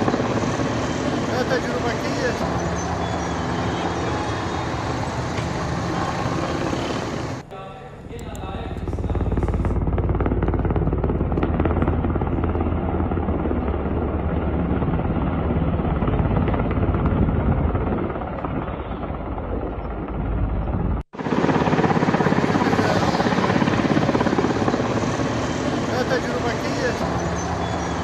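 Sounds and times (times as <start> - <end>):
helicopter rotor chopping: 0.0 - 28.0.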